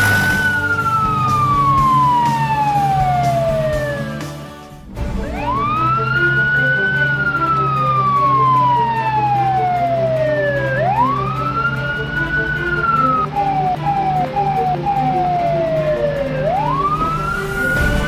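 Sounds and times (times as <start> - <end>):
cartoon siren wailing: 0.0 - 4.3, 5.2 - 18.0
background music: 0.0 - 18.0.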